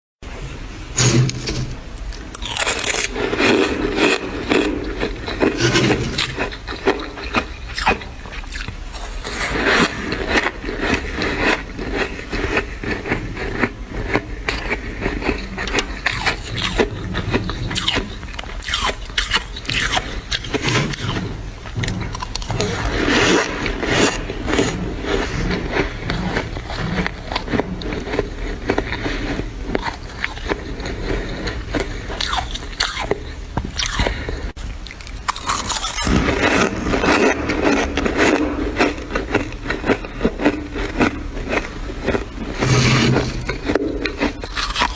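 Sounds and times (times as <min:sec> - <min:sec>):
frost being chewed: 0:01.3 - 0:44.9.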